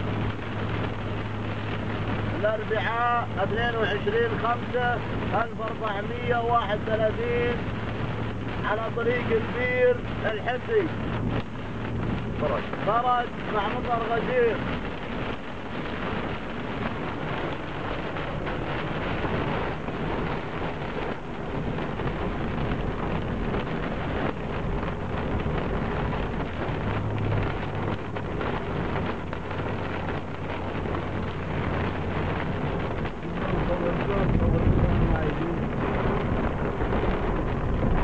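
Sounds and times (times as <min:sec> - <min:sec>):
heavy rain and hail pelting: 0:00.0 - 0:38.0.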